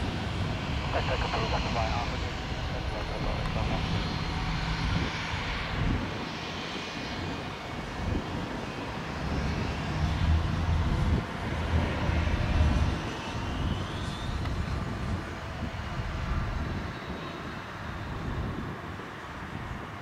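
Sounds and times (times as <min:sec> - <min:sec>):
jet engine rumble and whine: 0:00.0 - 0:20.0.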